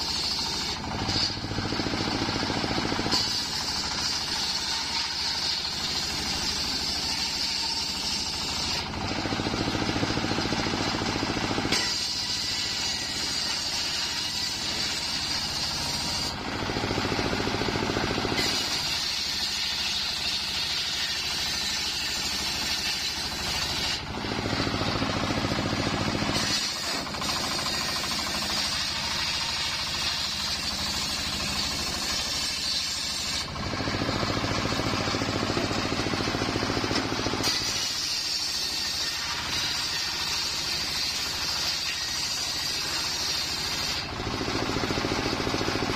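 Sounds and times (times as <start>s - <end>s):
circular saw cutting wood: 0.0s - 45.9s.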